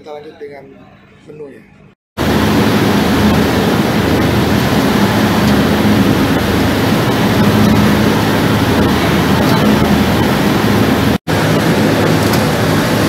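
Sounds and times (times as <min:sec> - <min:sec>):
ferry engine drone: 0:02.2 - 0:13.0
wake water rushing: 0:02.2 - 0:13.0
wind: 0:02.2 - 0:13.0.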